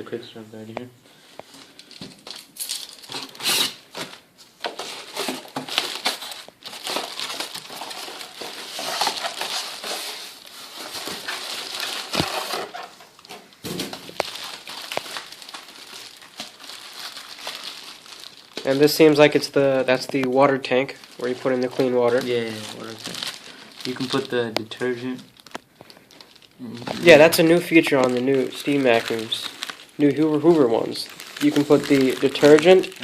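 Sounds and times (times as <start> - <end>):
packaging crinkling: 1.4 - 33.0.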